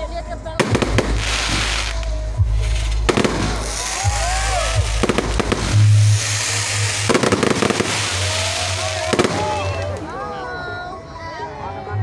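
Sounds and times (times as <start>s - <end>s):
fireworks banging: 0.6s - 10.2s
fireworks crackling: 0.6s - 10.4s.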